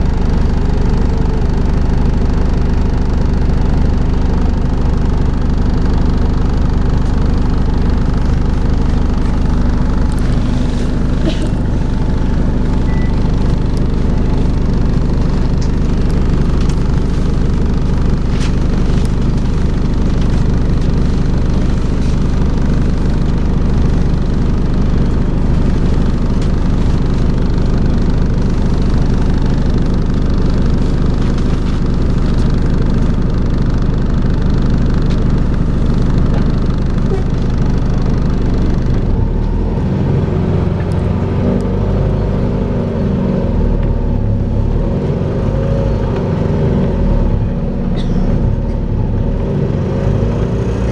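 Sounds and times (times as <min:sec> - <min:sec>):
bus engine droning: 0:00.0 - 0:50.9.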